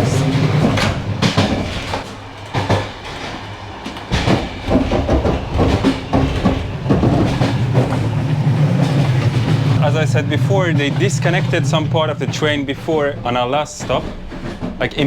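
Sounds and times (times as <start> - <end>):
train rumbling on track: 0.0 - 15.0
wheels clattering over rail joints: 0.0 - 15.0.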